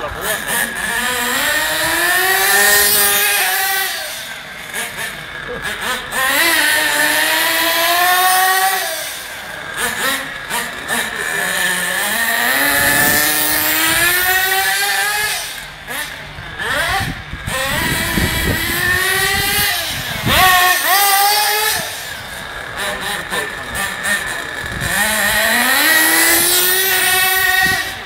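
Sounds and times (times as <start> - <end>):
model car engine revving: 0.0 - 28.0.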